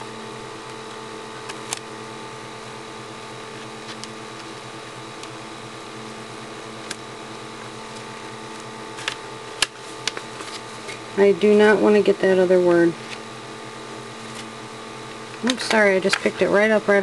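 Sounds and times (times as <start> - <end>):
electric fan humming: 0.0 - 17.0.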